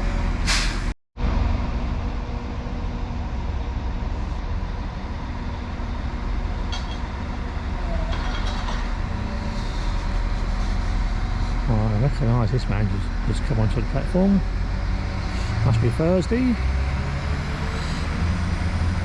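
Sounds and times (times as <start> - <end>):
diesel train engine rumbling: 0.0 - 19.0.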